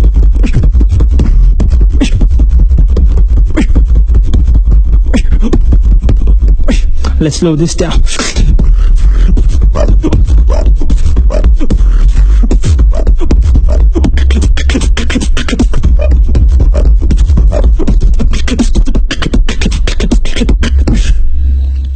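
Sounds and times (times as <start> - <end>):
beatboxing: 0.0 - 21.9.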